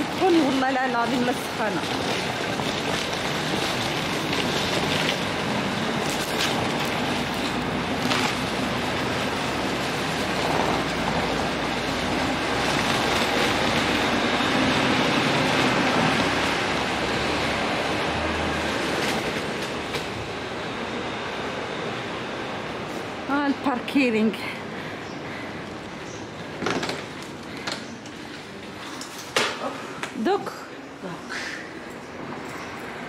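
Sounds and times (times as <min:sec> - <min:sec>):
suitcase wheels rolling on pavement: 0:00.0 - 0:30.8.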